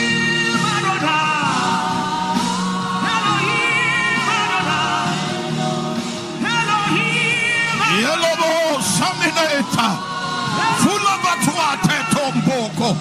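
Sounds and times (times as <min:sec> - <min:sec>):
voices singing gospel: 0:00.0 - 0:13.0.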